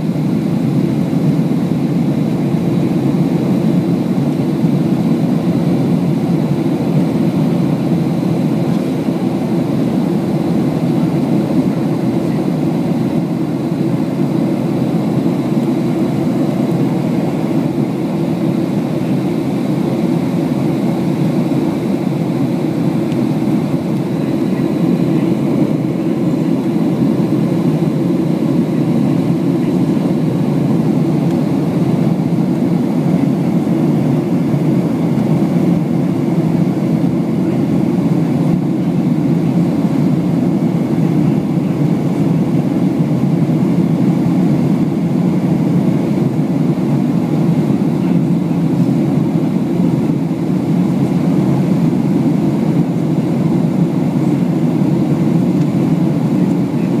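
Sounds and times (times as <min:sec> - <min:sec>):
jet cabin rumble: 0:00.0 - 0:57.0.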